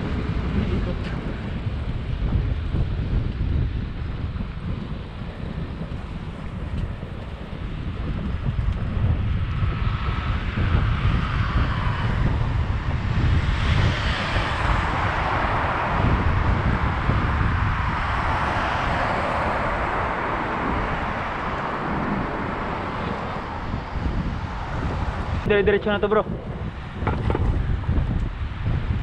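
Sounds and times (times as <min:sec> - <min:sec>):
road noise rushing: 0:00.0 - 0:29.0
wind buffeting microphone: 0:00.0 - 0:29.0.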